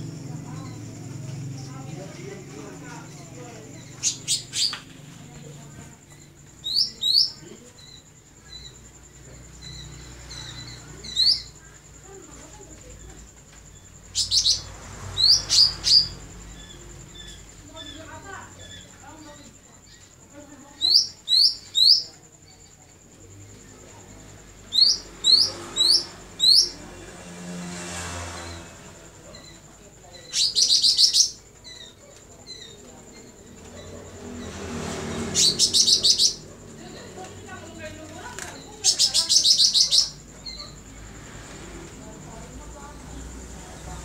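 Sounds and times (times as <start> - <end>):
songbird chirping: 0.0 - 44.0.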